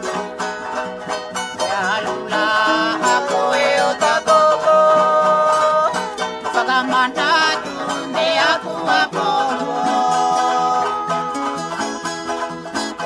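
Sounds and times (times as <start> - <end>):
song with plucked strings: 0.0 - 13.0.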